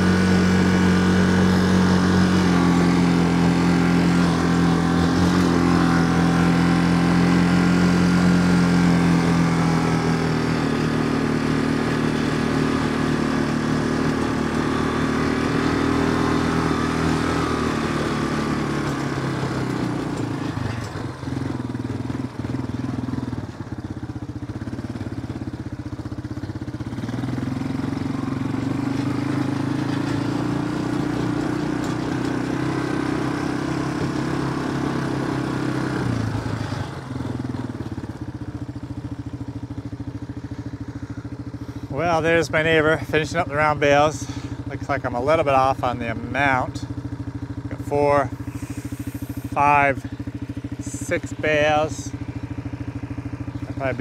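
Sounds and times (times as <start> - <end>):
small vehicle engine running: 0.0 - 54.0.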